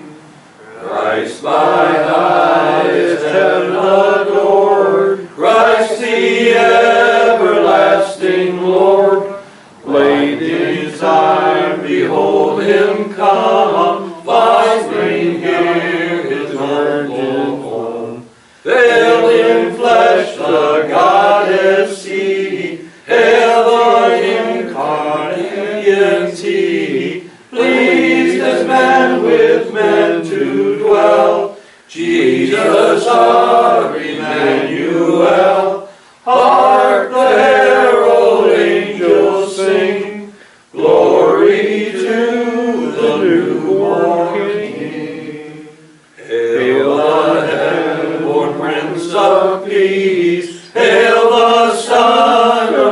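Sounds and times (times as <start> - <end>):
group singing a hymn a cappella: 0.0 - 52.9.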